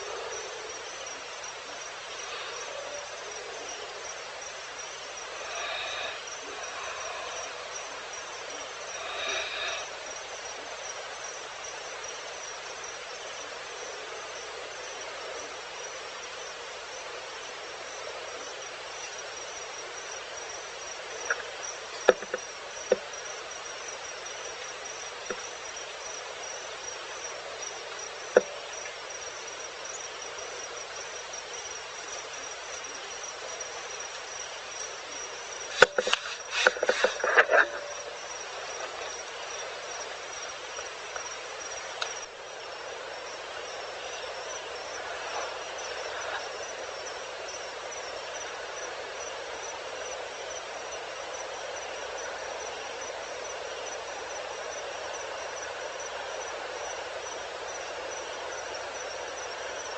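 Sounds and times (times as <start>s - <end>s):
crickets chirping: 0.0s - 59.9s
evening hiss: 0.0s - 59.9s.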